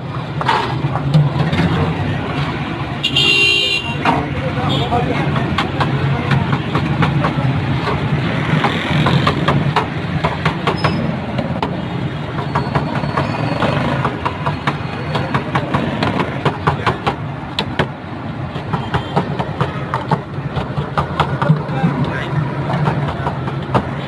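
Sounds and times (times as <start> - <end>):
noisy street wash: 0.0 - 24.0.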